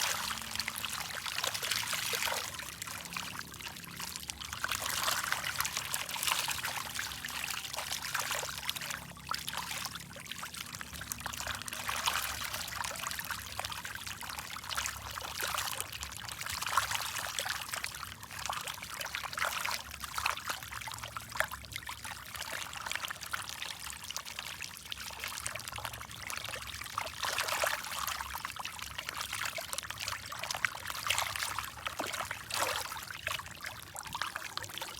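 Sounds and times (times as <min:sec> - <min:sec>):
water trickling and splashing: 0:00.0 - 0:34.9.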